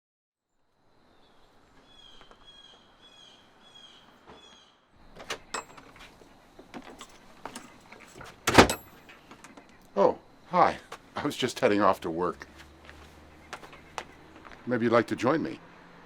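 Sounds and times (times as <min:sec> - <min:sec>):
faint outdoor hiss: 0:00.4 - 0:16.0
bird chirping: 0:01.1 - 0:10.5, 0:11.8 - 0:15.9.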